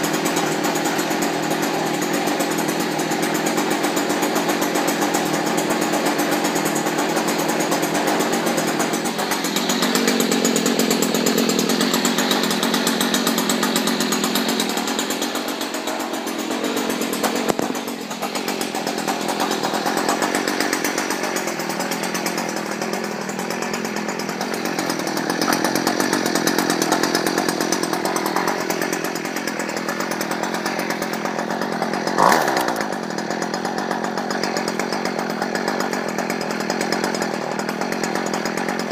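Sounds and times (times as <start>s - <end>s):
string trimmer engine revving: 0.0s - 38.9s.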